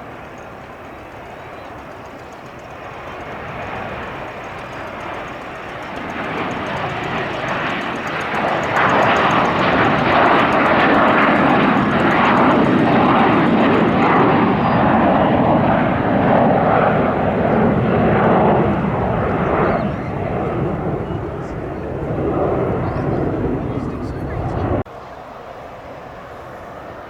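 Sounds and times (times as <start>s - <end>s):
jet airliner engine roar: 0.0s - 27.0s.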